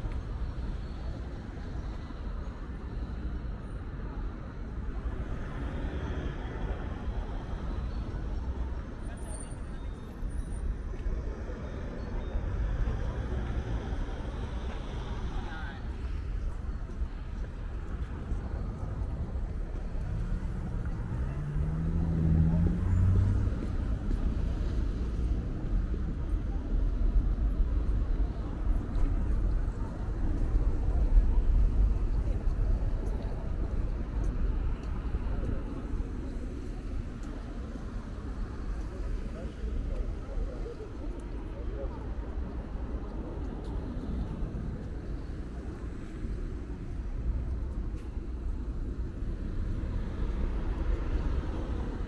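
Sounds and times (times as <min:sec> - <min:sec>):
road traffic rumble: 0:00.0 - 0:52.0
vehicles passing: 0:00.0 - 0:52.0.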